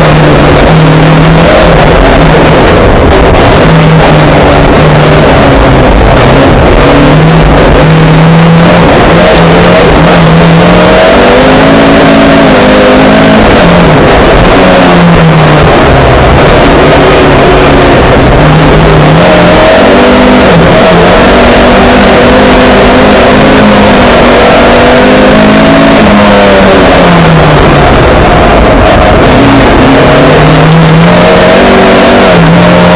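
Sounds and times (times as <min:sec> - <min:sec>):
rally car engine revving: 0:00.0 - 0:32.9.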